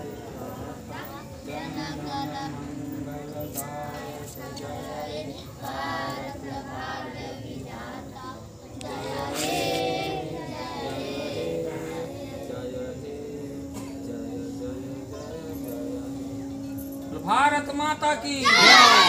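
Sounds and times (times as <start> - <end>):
children and women singing: 0.0 - 17.0, 18.4 - 19.0.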